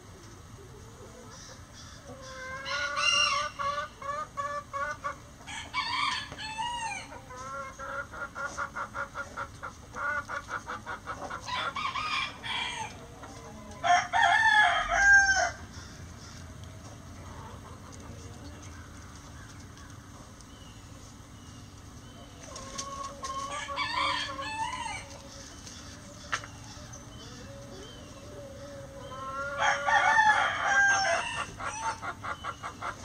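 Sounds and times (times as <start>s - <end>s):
chickens clucking: 0.0s - 33.0s
roosters crowing: 0.8s - 8.4s, 10.8s - 20.1s, 22.2s - 33.0s.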